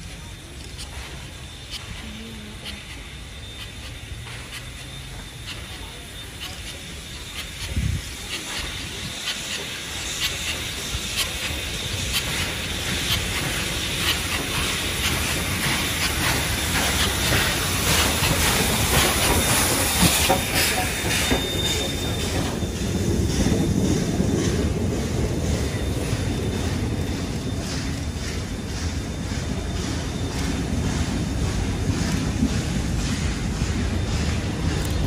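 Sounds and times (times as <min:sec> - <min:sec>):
low rumble of carriages rolling: 0:00.0 - 0:35.0
steam hissing: 0:00.0 - 0:35.0
wheels clicking over rail joints: 0:00.0 - 0:35.0.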